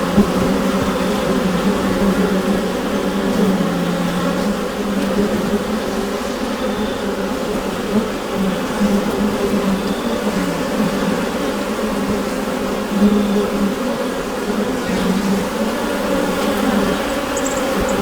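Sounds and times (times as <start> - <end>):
bees humming: 0.0 - 18.0.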